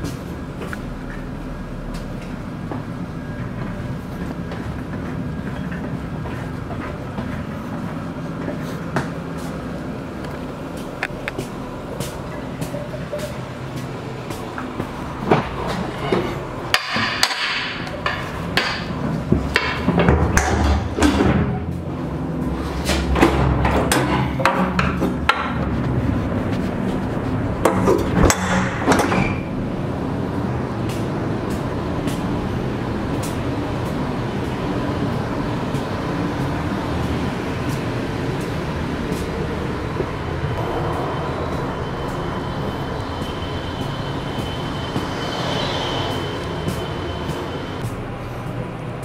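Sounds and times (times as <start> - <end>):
footsteps in steel passageway: 0.0 - 49.0
ship machinery and ventilation rumble: 0.0 - 49.0
steady low hum: 0.0 - 49.0.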